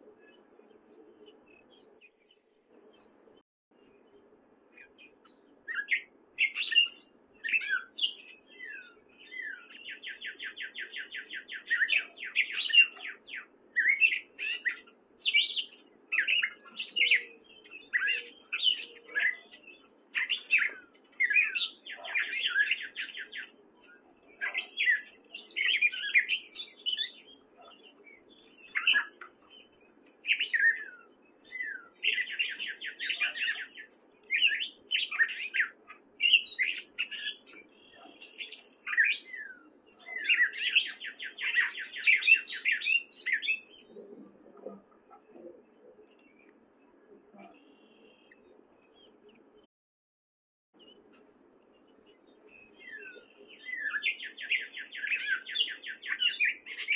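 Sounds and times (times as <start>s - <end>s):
catbird singing: 3.8s - 49.7s, 50.8s - 56.9s.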